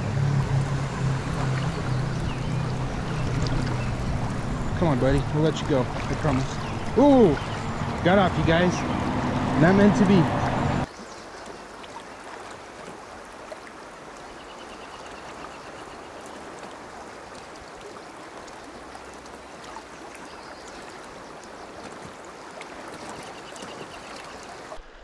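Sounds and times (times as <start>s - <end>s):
flowing creek water: 0.0s - 25.0s.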